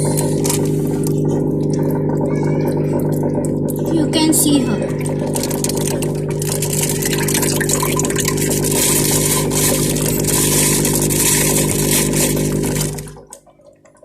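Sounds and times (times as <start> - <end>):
machine hum: 0.0 - 13.4.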